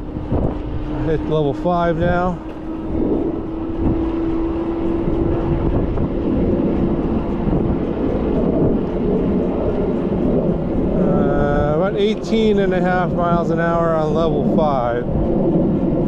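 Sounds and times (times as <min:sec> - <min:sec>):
electric motor hum: 0:00.0 - 0:14.4
wind rushing over microphone: 0:00.0 - 0:16.0.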